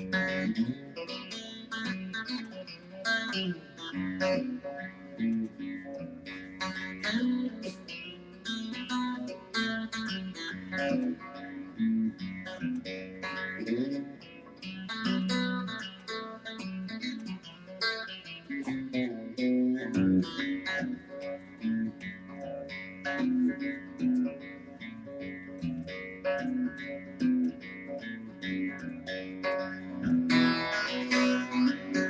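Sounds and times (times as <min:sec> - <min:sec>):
plucked acoustic string melody: 0:00.0 - 0:32.0.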